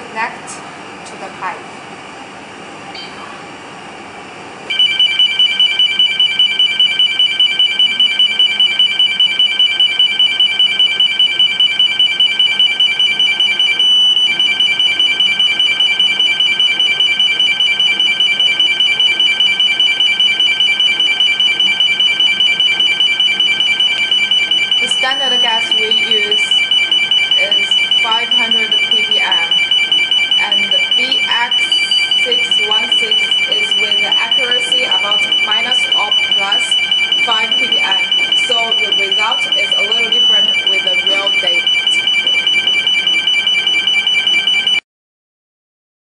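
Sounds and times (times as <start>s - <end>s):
gas alarm beeping: 4.6s - 44.8s.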